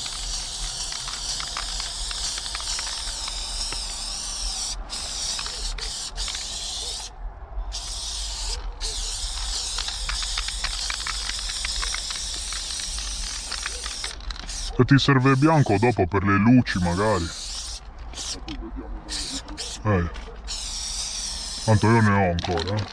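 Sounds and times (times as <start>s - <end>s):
spray can hissing: 0.0s - 7.1s, 7.7s - 16.1s, 16.7s - 18.5s, 19.1s - 22.9s.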